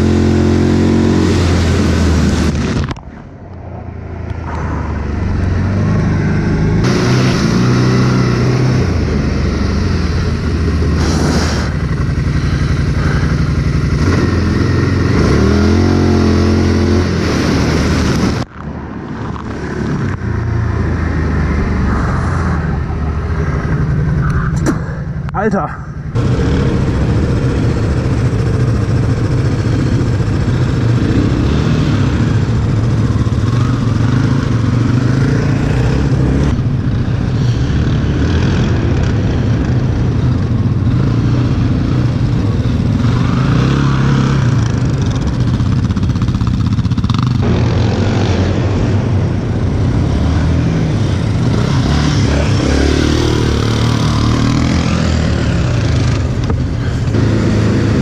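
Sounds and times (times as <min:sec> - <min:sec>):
atv engine revving: 0:00.0 - 0:03.0, 0:04.2 - 0:58.0.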